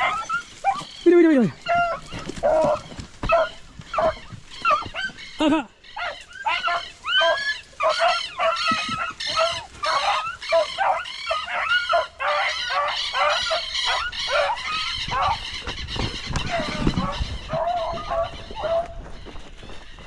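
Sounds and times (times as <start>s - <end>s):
beagles baying: 0.0s - 20.0s.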